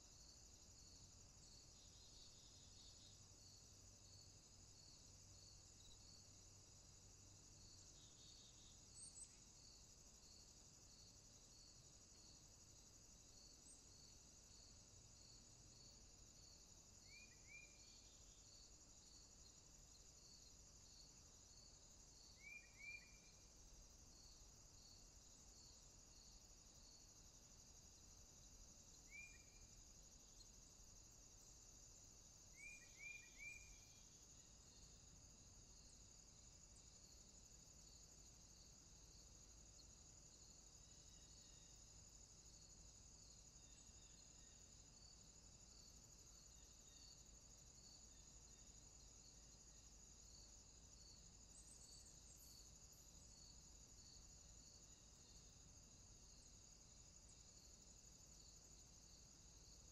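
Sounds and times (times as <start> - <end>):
crickets trilling: 0.0 - 59.9
repeating insect chirp: 0.0 - 59.9.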